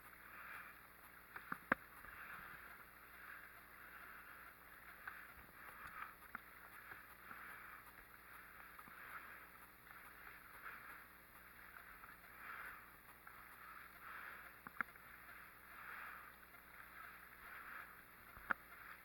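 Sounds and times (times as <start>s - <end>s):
faint water wash: 0.3s - 19.0s.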